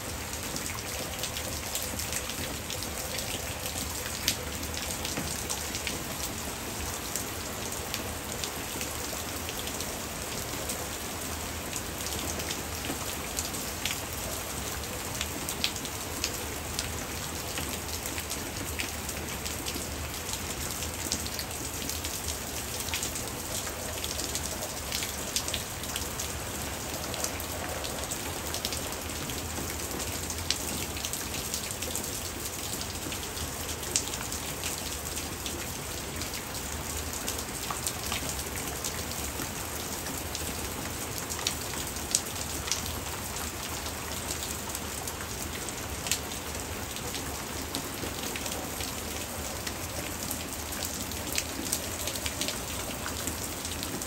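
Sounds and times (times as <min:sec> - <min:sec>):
hard rain falling: 0:00.0 - 0:54.0.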